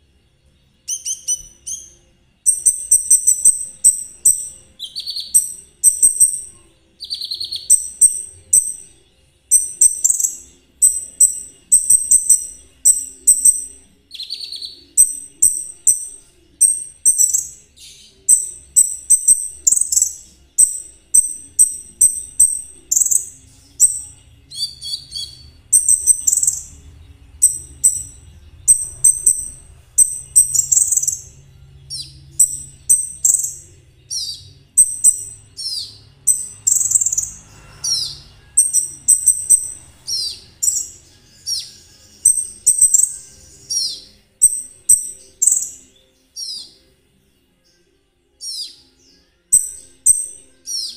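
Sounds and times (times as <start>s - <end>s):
sunbird singing high trills: 0.8s - 26.8s, 27.4s - 46.8s, 48.4s - 50.9s.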